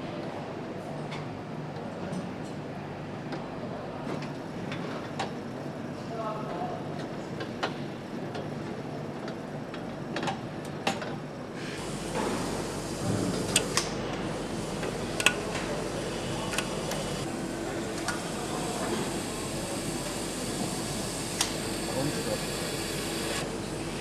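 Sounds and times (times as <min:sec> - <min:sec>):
steady factory hum: 0:00.0 - 0:24.0.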